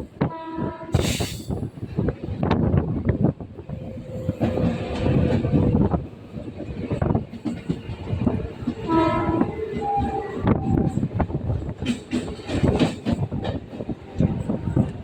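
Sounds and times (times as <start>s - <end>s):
train rumbling and rattling: 0.0s - 15.0s.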